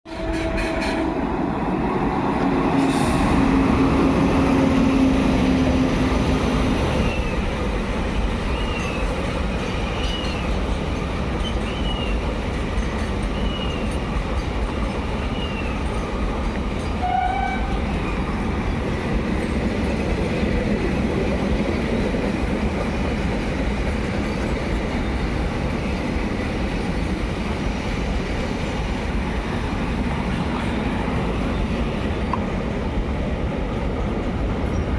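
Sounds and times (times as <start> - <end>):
train wheels rumbling on rail: 0.1 - 34.9.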